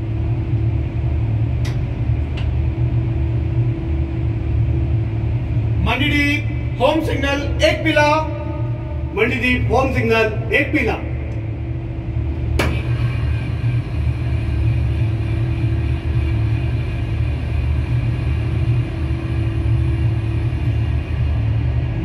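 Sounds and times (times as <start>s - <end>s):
locomotive cab low rumble: 0.0s - 22.0s
steady hum: 0.0s - 22.0s.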